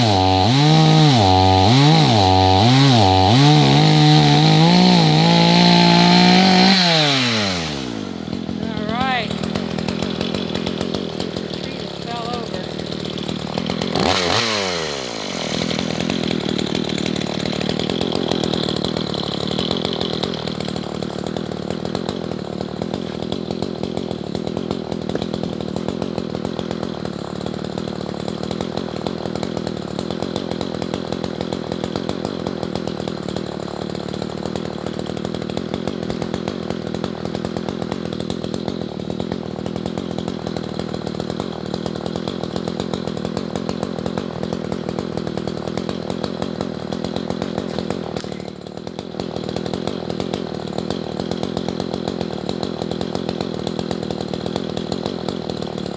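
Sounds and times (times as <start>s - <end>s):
chainsaw running and revving: 0.0s - 55.9s.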